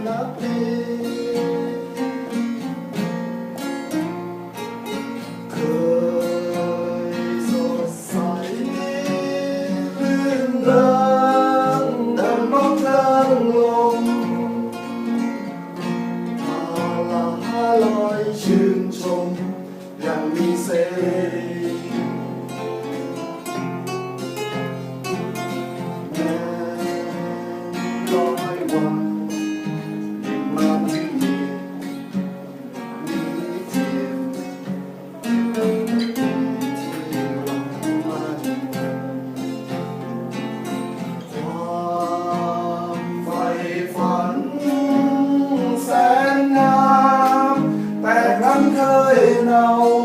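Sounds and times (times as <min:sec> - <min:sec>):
guitar plucked and strummed: 0:00.0 - 0:50.0.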